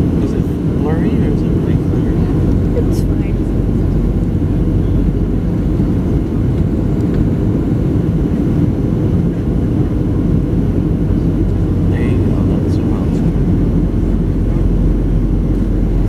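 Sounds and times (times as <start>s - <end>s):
airplane cabin roar: 0.0s - 16.0s.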